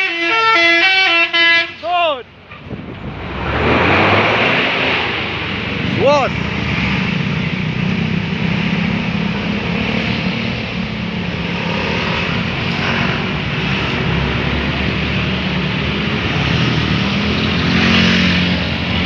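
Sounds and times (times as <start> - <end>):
bus engine droning: 0.0 - 19.0
road noise: 0.0 - 19.0.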